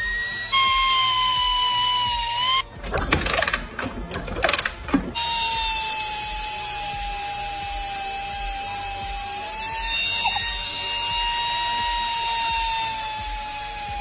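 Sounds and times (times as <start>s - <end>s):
rotary tool cutoff wheel whining: 0.0s - 14.0s.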